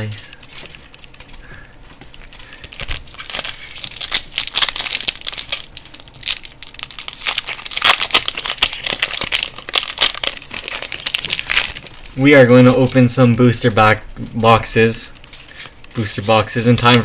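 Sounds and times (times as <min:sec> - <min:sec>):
foil wrapper crinkling: 0:00.0 - 0:17.0.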